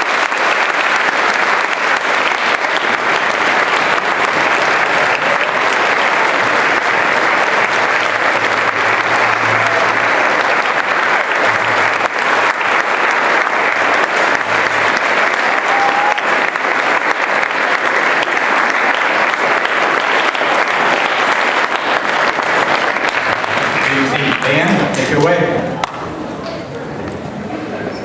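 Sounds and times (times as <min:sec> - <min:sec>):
audience applause: 0:00.0 - 0:26.1.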